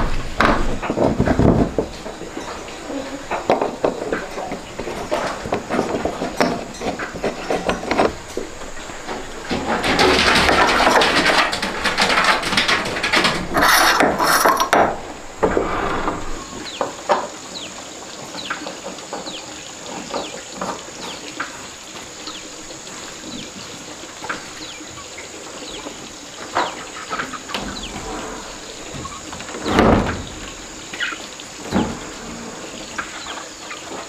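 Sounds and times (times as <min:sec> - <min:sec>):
high insect drone: 0:00.1 - 0:34.0.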